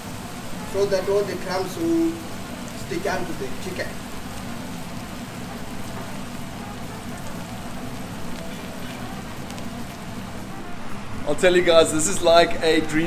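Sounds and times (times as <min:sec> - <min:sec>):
chicken sizzling in deep fryer: 0:00.0 - 0:13.0.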